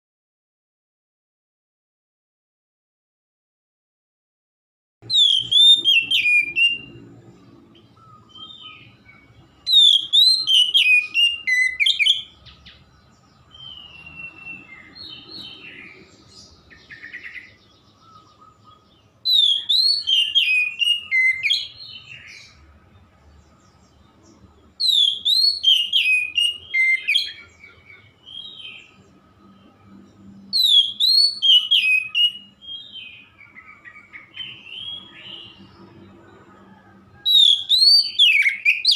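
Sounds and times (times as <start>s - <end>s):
bird whistled song: 5.0s - 22.7s, 23.3s - 38.9s.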